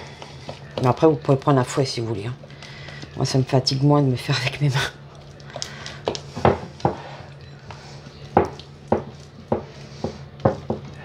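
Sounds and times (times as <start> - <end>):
hand mixing dough: 0.0 - 11.0.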